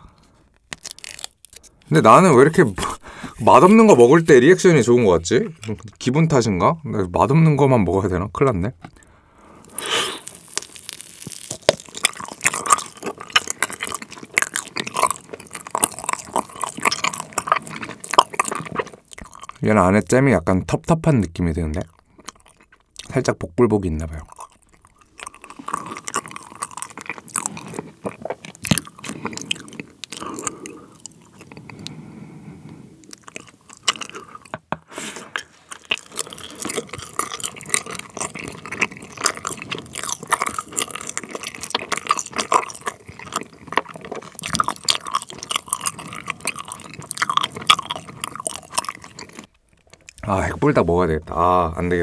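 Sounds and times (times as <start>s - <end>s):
chewing gummy candy: 0.2s - 6.4s, 8.9s - 20.2s, 21.2s - 50.8s.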